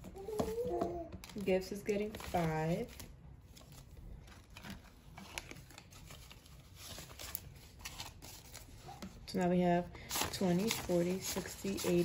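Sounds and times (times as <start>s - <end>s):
banknotes rustling and crinkling: 0.0s - 12.0s.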